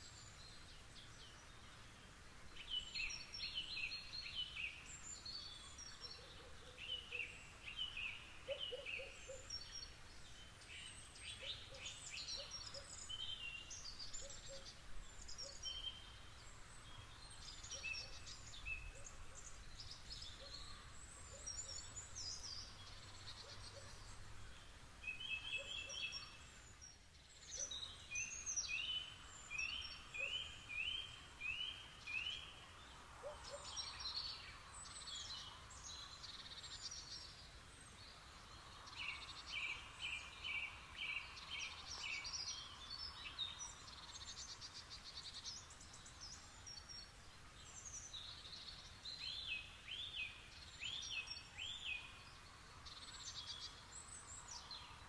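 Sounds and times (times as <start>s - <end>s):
faint background hiss: 0.0s - 55.0s
songbirds calling and singing: 0.0s - 55.0s.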